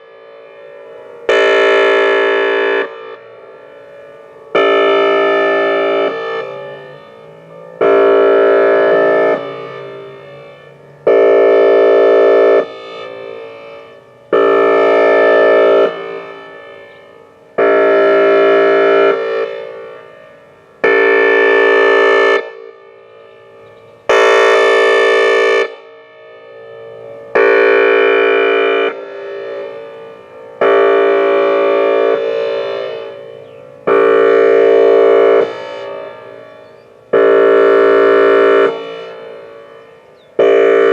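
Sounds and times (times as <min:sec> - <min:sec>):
multi-tone warning siren: 0:00.0 - 0:40.9.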